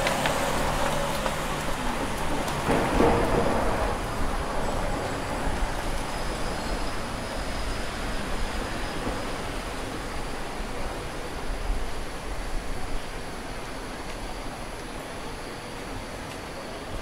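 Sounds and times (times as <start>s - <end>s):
hum of passing traffic: 0.0s - 17.0s.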